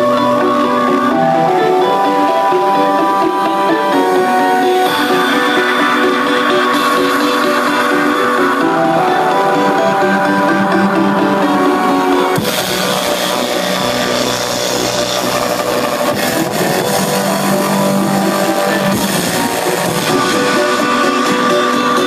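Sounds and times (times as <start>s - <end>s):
synth chords: 0.0s - 22.0s.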